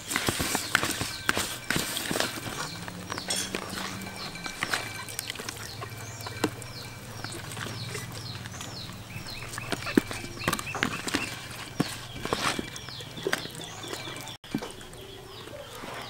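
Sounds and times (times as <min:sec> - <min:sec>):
low steady hum: 0:00.0 - 0:15.2
hands squelching raw chicken: 0:00.0 - 0:15.7
sharp wet clicks: 0:00.0 - 0:15.8
birds chirping: 0:00.0 - 0:16.0.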